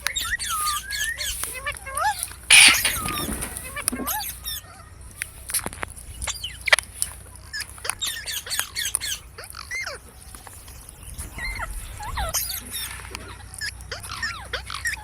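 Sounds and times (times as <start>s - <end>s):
parrots chirping and squawking: 0.0s - 15.0s.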